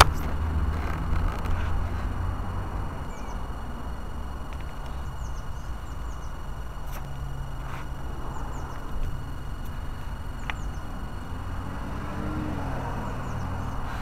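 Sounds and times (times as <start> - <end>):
road noise: 0.0 - 14.0
small birds chirping: 0.0 - 14.0.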